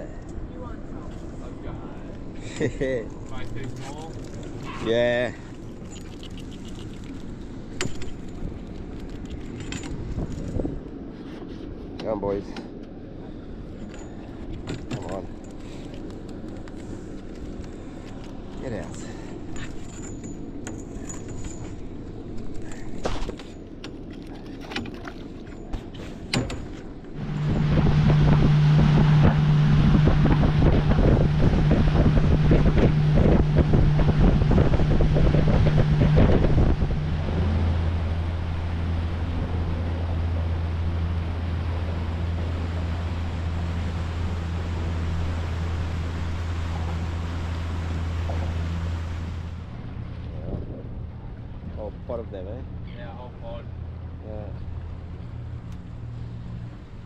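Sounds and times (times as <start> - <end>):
water and wind rush: 0.0 - 12.4, 13.0 - 57.0
boat motor humming: 0.0 - 57.0.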